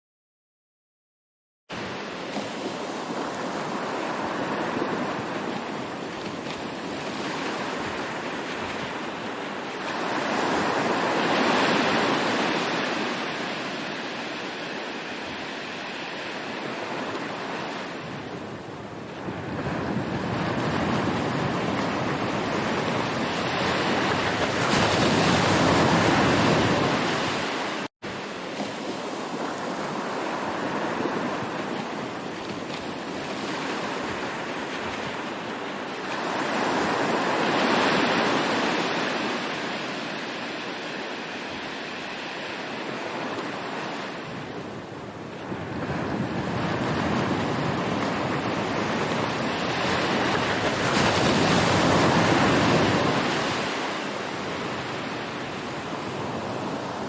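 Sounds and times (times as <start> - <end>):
ocean waves breaking: 1.7 - 57.0.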